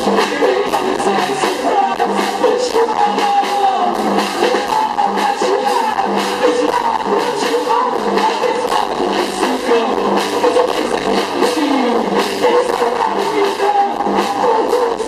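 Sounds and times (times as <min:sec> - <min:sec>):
electric guitars: 0:00.0 - 0:15.0
person singing: 0:00.0 - 0:15.0
steady drum beat: 0:00.0 - 0:15.0.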